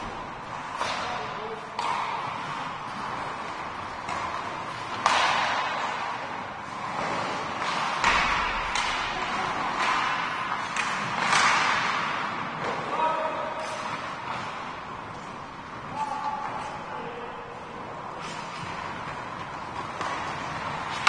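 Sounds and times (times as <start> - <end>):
puck and sticks banging on boards: 0.0 - 21.0.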